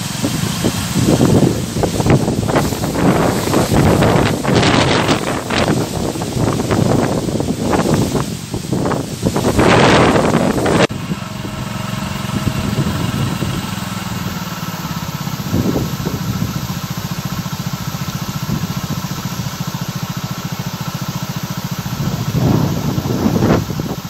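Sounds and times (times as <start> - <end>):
engine idling: 0.0 - 24.0
wind gusting through bamboo: 0.0 - 24.0.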